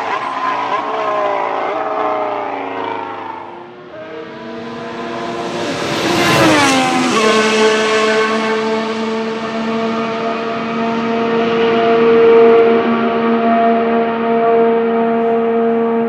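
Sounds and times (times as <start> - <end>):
racing car engine passing: 0.0 - 16.0.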